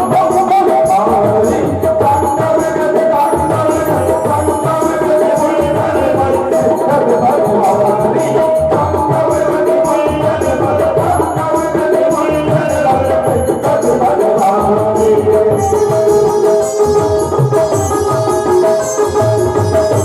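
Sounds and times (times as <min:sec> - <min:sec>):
tabla drumming: 0:00.0 - 0:20.0.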